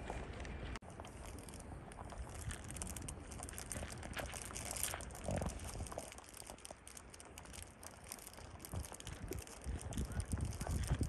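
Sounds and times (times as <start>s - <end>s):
rabbits chewing food: 0.0s - 11.0s.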